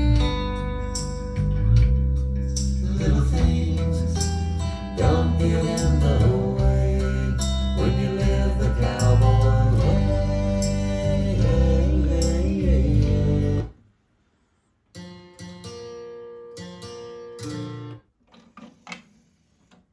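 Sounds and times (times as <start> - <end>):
guitar music with singing: 0.0 - 13.8, 14.9 - 18.0.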